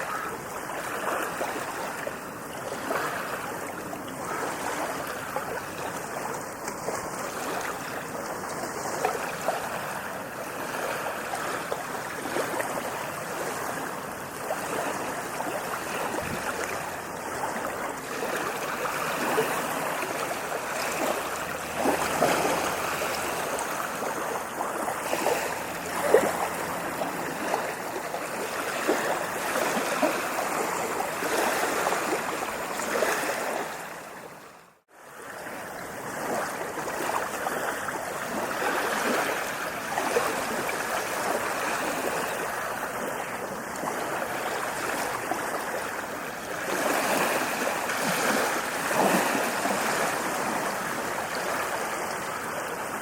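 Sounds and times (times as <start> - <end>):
sea waves breaking on beach: 0.0 - 53.0
water splashes: 0.0 - 53.0.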